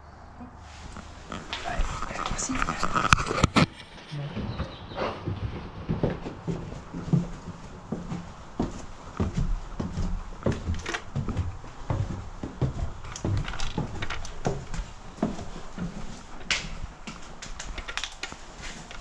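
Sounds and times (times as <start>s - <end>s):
footsteps going down stairs: 0.8s - 19.0s.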